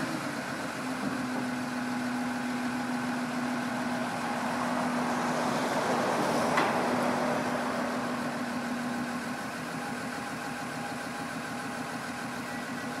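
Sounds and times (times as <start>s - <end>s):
diesel engine running at low revs: 0.0s - 13.0s.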